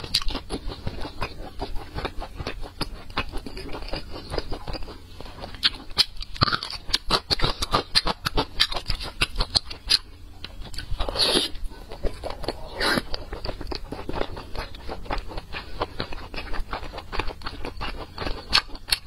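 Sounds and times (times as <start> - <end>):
close chewing with mouth clicks: 0.0 - 19.0.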